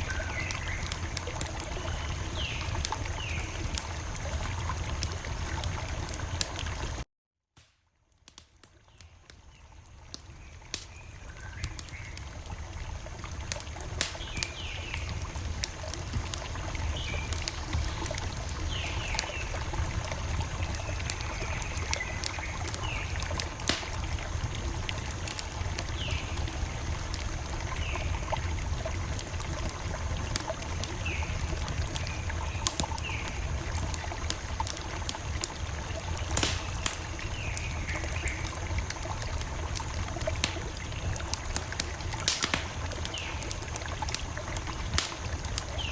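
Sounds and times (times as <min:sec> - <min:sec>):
campfire crackling: 0:00.0 - 0:07.0, 0:07.6 - 0:45.9.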